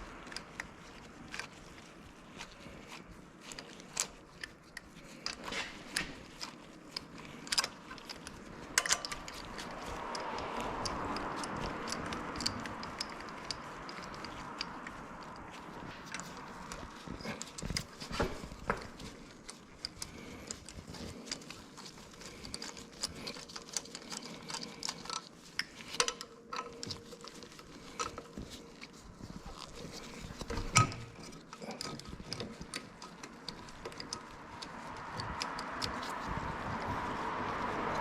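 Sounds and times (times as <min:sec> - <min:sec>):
hand tools clinking: 0:03.9 - 0:36.3.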